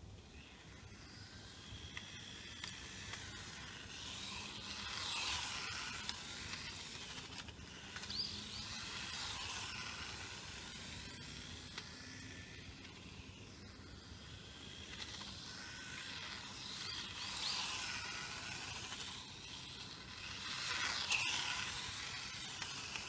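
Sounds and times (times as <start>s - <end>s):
toy car motor whirring: 0.0s - 23.0s.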